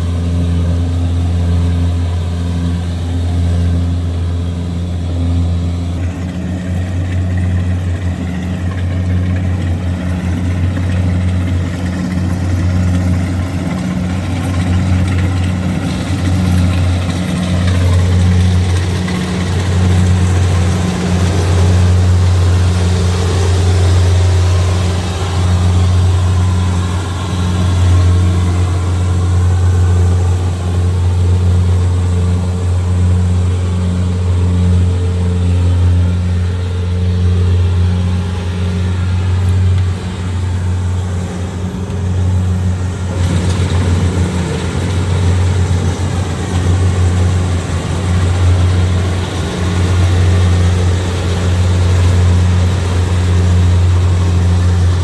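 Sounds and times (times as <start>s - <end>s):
combine harvester engine drone: 0.0s - 55.0s
hissy machinery sound: 11.0s - 55.0s.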